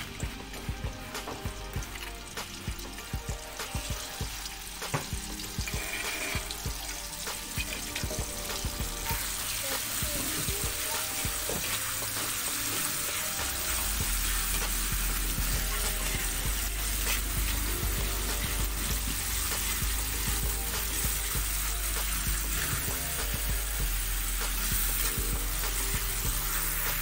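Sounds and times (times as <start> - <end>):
chilli paste sizzling in oil: 0.0 - 27.0.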